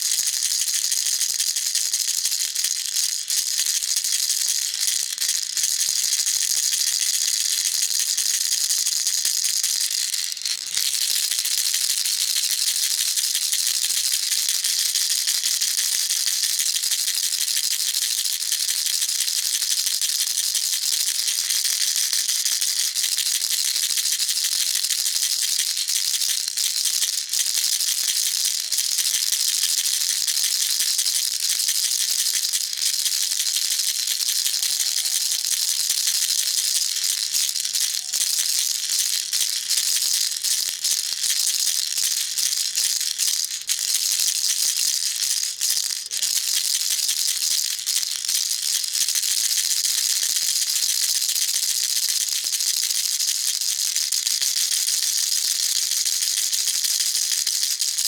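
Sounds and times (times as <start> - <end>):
baby rattle shaking: 0.0 - 58.0.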